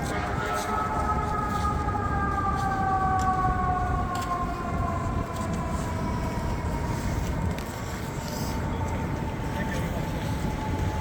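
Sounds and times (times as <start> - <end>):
city traffic rumble: 0.0 - 11.0
siren wailing: 0.0 - 11.0.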